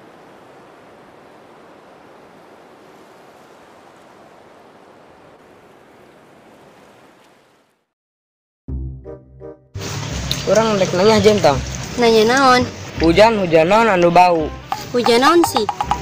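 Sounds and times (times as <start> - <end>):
steady rain: 0.0 - 7.9, 9.8 - 16.0.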